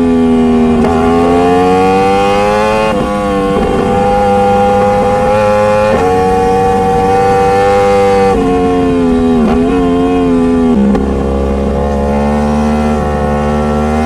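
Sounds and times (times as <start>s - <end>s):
motorcycle engine changing gears: 0.0s - 14.0s.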